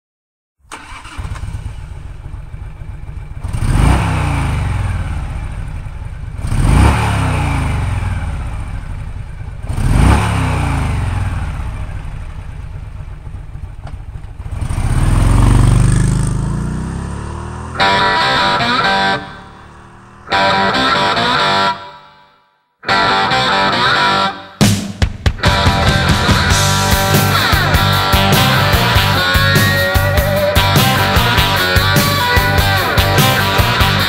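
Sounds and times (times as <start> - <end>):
motorcycle engine idling and revving: 0.7 - 21.6, 25.1 - 34.0.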